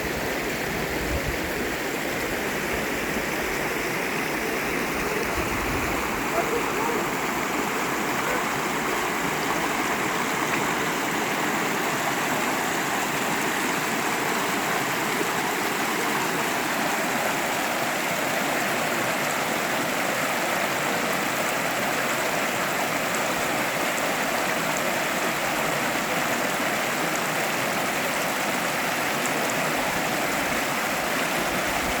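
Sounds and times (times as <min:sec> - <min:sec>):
river rushing over rocks: 0:00.0 - 0:32.0.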